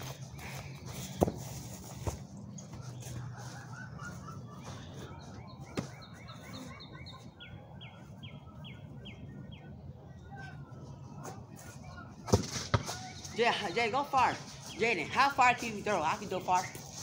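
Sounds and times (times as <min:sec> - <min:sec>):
songbird singing: 0:00.0 - 0:16.7
faint outdoor background noise: 0:00.0 - 0:17.0.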